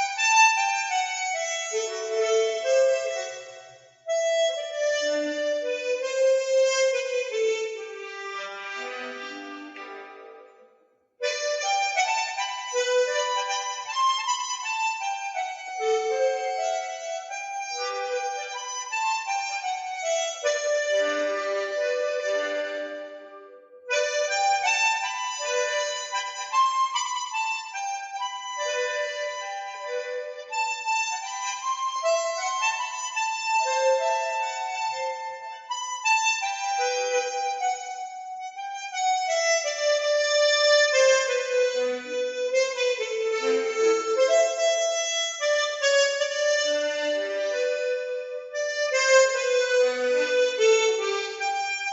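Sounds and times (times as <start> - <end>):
harmonica slow melody: 0.0 - 51.9.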